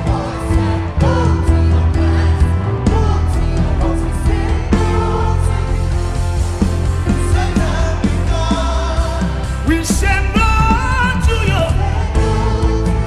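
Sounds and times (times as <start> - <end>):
man singing lead: 0.0 - 6.1, 6.9 - 13.0
backing vocalists singing: 0.0 - 13.0
gospel band playing: 0.0 - 13.0.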